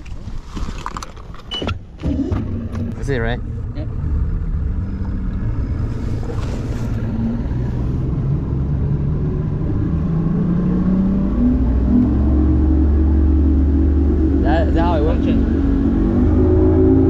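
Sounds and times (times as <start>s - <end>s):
outboard motor running: 2.0s - 9.9s, 10.7s - 17.0s.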